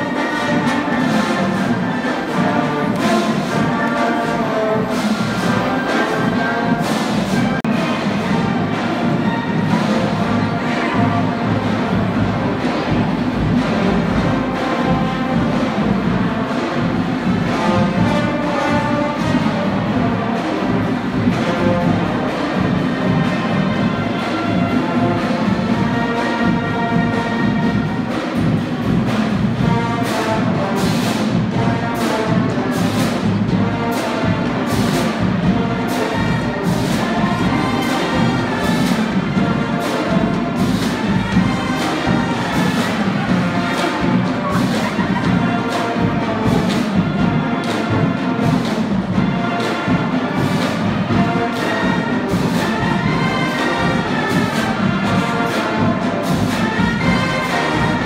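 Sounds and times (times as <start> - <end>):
brass and woodwinds playing: 0.0 - 58.0
marching drums beating: 0.0 - 58.0.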